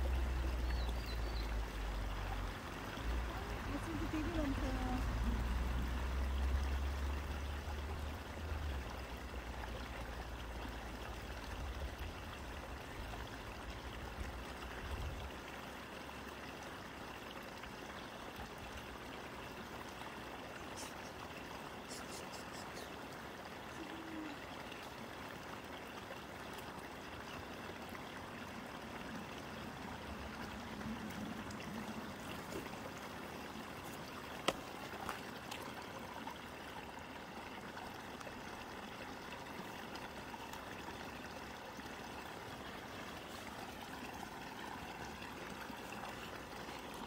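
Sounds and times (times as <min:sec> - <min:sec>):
stream trickling over rocks: 0:00.0 - 0:47.0.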